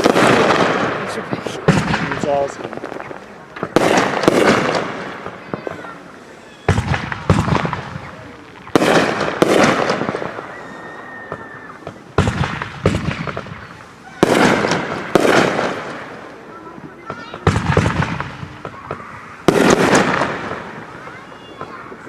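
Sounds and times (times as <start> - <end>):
firework bangs: 0.0 - 22.0.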